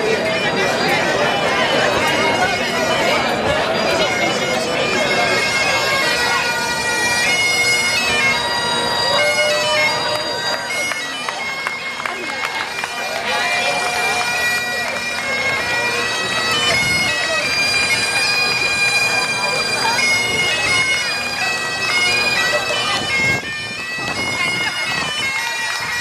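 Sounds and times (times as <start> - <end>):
bagpipes playing a melody: 0.0 - 26.0.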